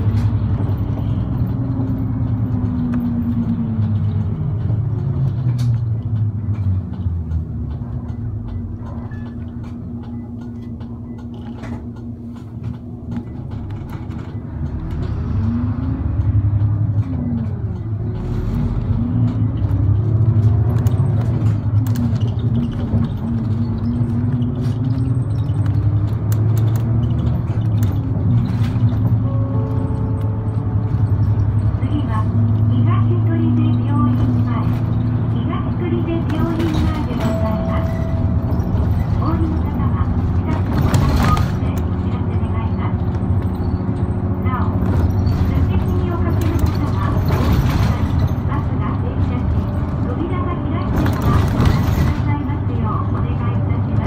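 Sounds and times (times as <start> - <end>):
bus diesel engine: 0.0 - 54.0
road noise: 0.0 - 54.0.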